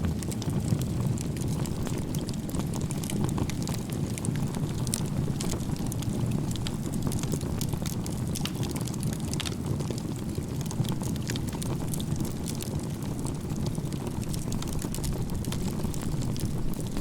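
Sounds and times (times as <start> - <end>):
fire rushing flame: 0.0 - 17.0
firewood crackling and popping: 0.0 - 17.0.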